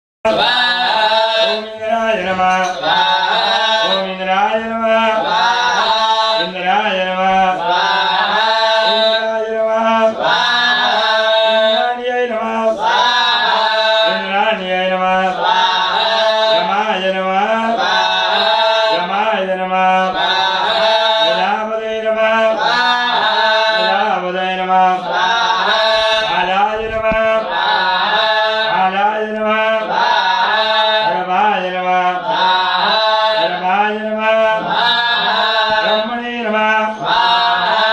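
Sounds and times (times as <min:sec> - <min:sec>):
men chanting mantras: 0:00.3 - 0:37.9.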